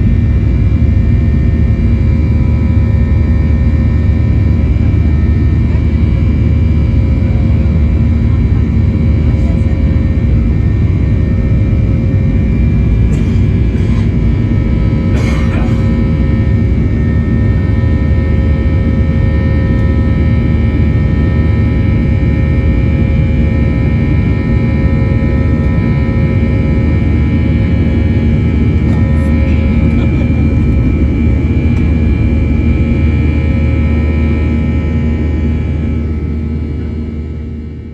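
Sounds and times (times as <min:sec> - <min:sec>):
jet engine cabin roar: 0:00.0 - 0:37.9
steady multi-tone buzz: 0:02.7 - 0:33.7.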